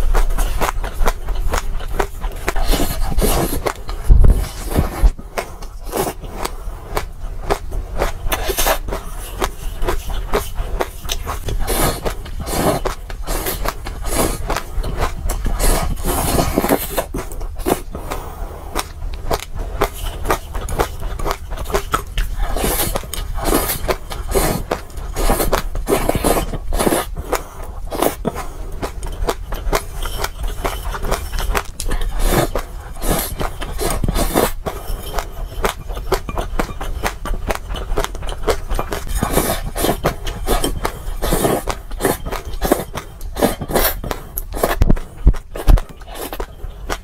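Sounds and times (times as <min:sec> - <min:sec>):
seeds crunched and chewed: 0:00.0 - 0:47.0.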